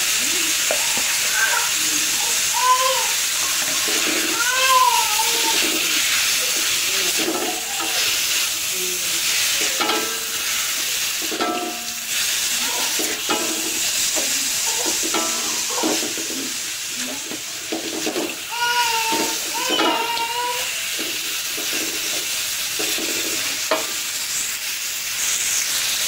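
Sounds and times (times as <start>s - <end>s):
food sizzling in a wok: 0.0s - 26.0s
spatula scraping a pan: 3.3s - 24.4s.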